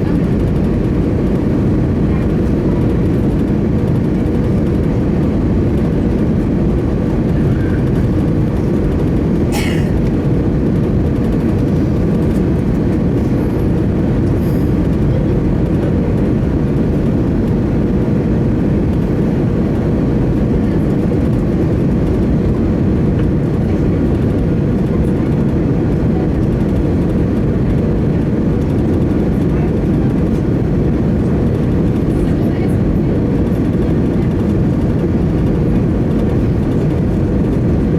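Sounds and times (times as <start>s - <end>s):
aircraft cabin engine roar: 0.0s - 37.9s.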